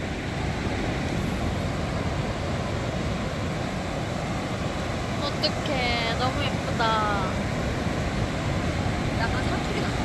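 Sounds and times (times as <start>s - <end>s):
surf breaking on beach: 0.0s - 10.0s.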